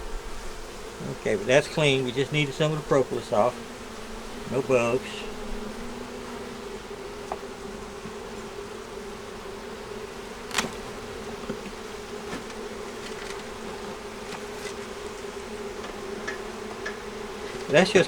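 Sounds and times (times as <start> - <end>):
honey bees humming: 0.0 - 18.0.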